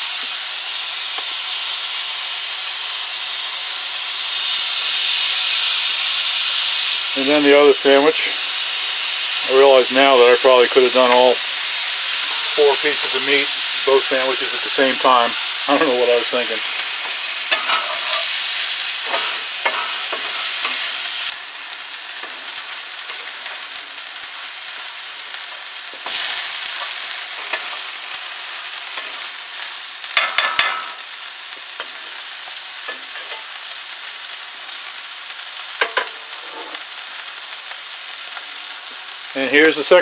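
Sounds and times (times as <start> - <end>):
meat and vegetables sizzling: 0.0 - 40.0.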